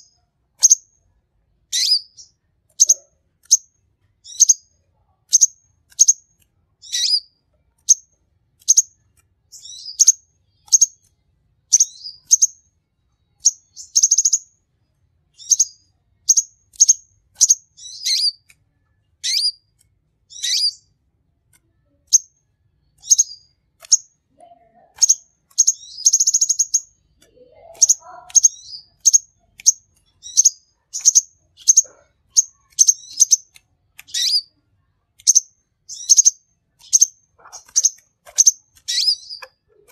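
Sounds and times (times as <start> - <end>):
bird chirping: 0.0 - 1.0, 1.7 - 14.7, 15.3 - 21.0, 21.7 - 39.9
buzzy bird trill: 1.7 - 4.7, 5.3 - 11.1, 11.7 - 12.6, 13.4 - 14.5, 15.4 - 18.5, 19.2 - 19.6, 20.3 - 20.9, 21.8 - 34.6, 35.2 - 39.9.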